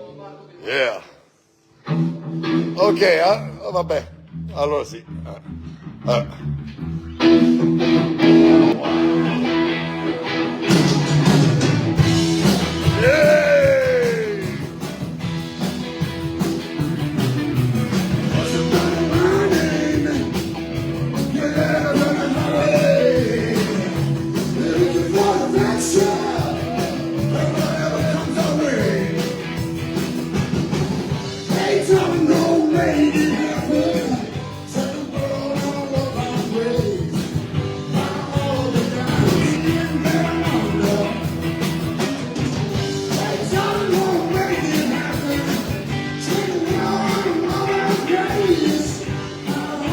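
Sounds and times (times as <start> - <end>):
live blues band playing: 1.8 - 3.5, 5.4 - 49.9.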